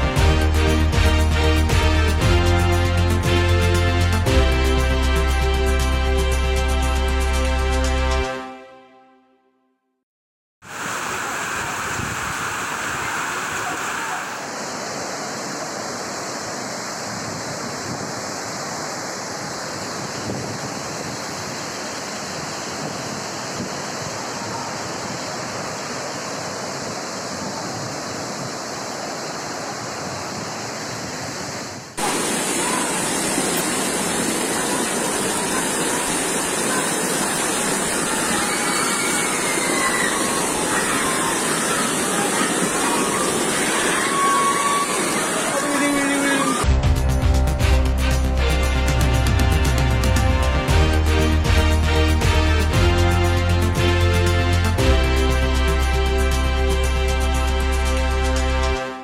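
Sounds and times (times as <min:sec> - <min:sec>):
floodwater rushing: 0:00.0 - 0:06.2, 0:10.6 - 0:46.8, 0:47.7 - 0:59.0.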